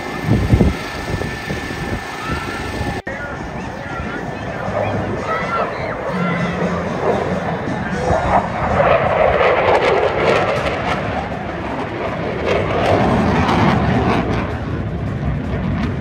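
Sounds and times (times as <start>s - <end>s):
aircraft flying past: 0.0s - 16.0s.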